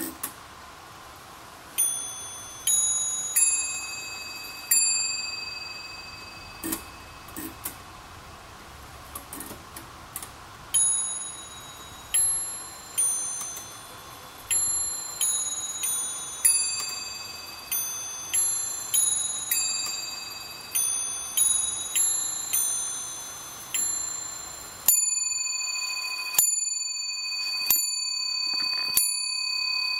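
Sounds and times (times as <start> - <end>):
bells playing a tune: 1.8 - 7.5, 10.8 - 29.9.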